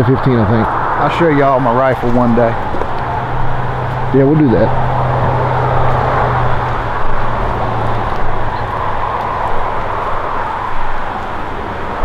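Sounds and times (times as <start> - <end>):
low hum: 0.0 - 12.0
rushing outdoor noise: 0.0 - 12.0.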